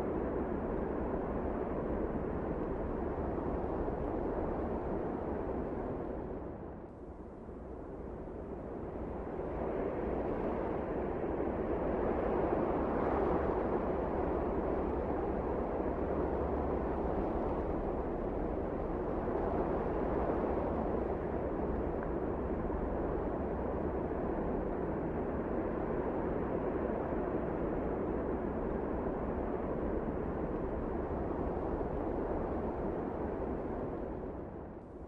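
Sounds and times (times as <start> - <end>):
wind blowing in blizzard: 0.0 - 35.0.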